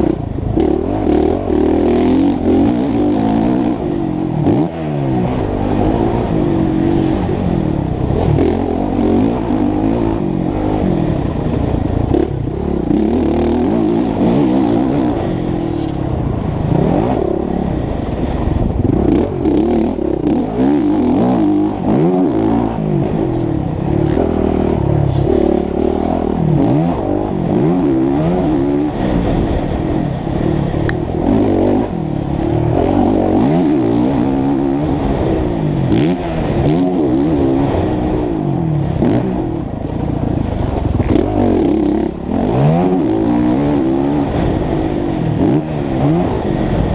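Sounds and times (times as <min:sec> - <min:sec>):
motocross engine revving hard: 0:00.0 - 0:39.7, 0:40.4 - 0:46.9.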